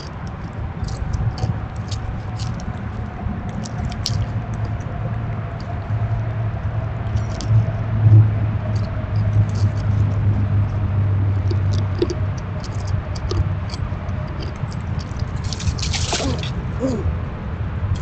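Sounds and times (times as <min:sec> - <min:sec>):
squirrel chewing and crunching: 0:00.0 - 0:17.0
steady low hum: 0:00.0 - 0:18.0.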